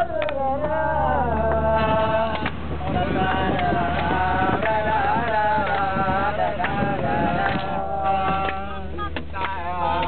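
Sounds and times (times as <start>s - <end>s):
bus engine drone: 0.0s - 10.0s
person singing over a beat: 1.4s - 10.0s.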